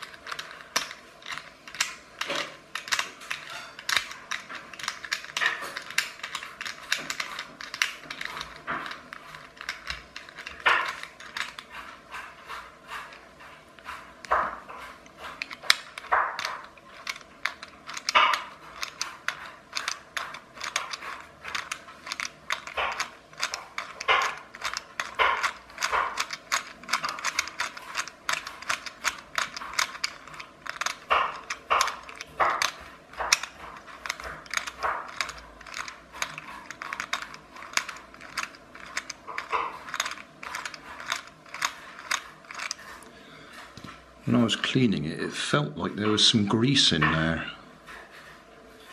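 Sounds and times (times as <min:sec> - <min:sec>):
toy motor clicking and ratcheting: 0:00.0 - 0:43.8.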